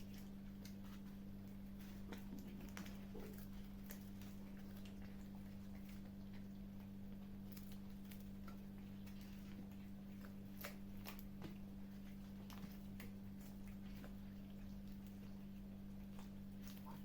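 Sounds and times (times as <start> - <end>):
kittens chewing food: 0.0 - 17.0
steady low hum: 0.0 - 17.0.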